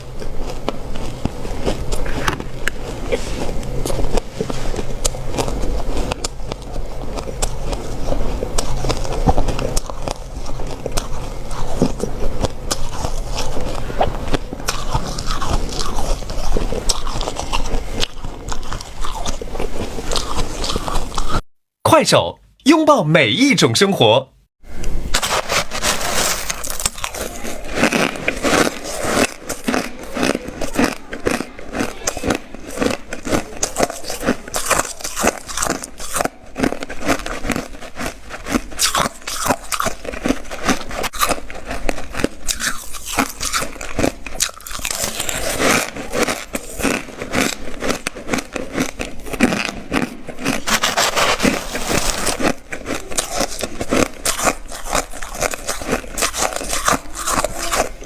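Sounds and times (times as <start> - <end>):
ice being chewed: 0.0 - 21.4, 25.2 - 58.0.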